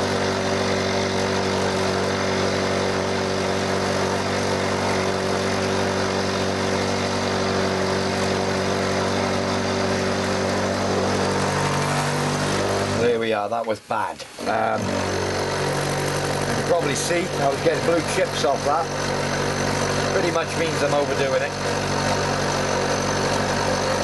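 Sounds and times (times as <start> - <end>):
metal cutting noise: 0.0 - 13.2, 14.2 - 24.0
milling machine hum: 0.0 - 13.2, 14.2 - 24.0.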